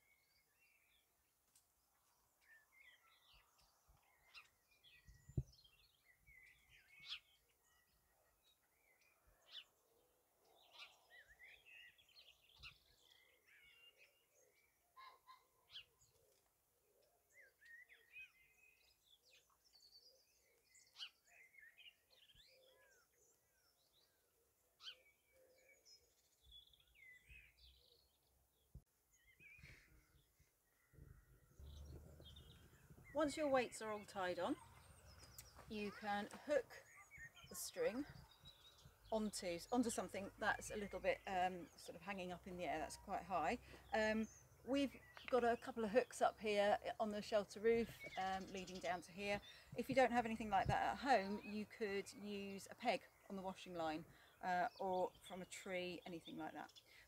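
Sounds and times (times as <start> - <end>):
faint birdsong: 0.0 - 57.0.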